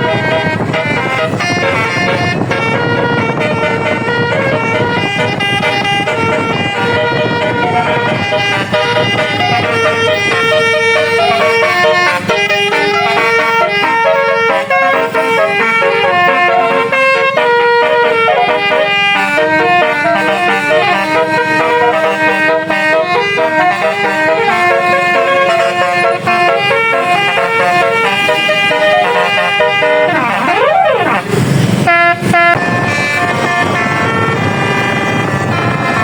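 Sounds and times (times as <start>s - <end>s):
bus air horn playing a tune: 0.0s - 36.0s
bus engine rumbling: 0.0s - 36.0s.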